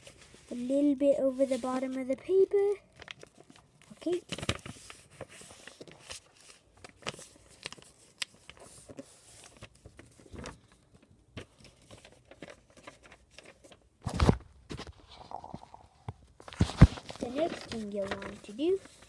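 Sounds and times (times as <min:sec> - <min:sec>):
paper being folded: 0:00.0 - 0:15.6, 0:16.4 - 0:19.0.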